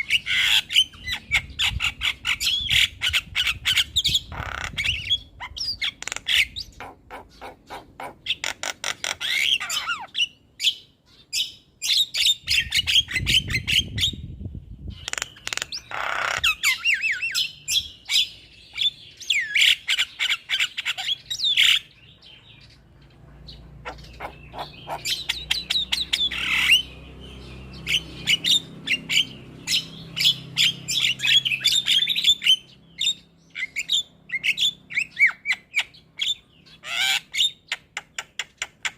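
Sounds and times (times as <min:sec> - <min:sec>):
myna bird chattering: 0:00.0 - 0:14.2, 0:14.8 - 0:38.9.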